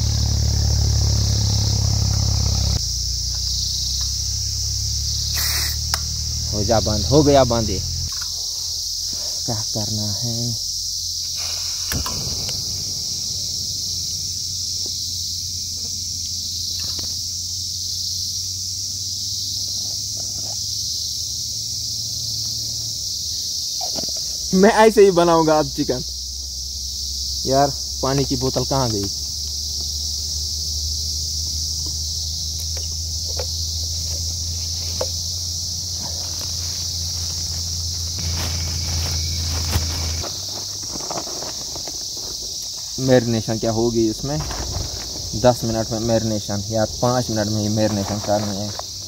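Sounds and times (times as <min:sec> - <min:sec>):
insects chirping: 0:00.0 - 0:49.0.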